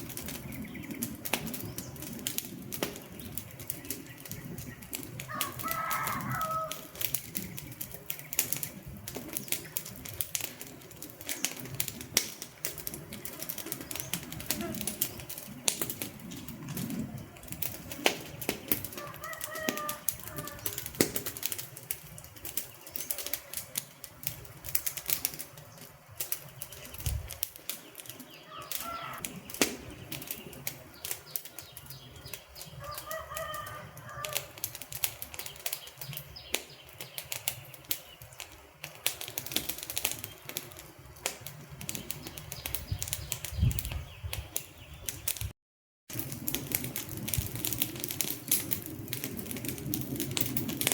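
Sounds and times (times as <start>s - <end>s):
flames hissing: 0.0s - 44.5s, 46.1s - 50.9s
burning logs snapping and popping: 0.0s - 45.5s, 46.1s - 50.9s.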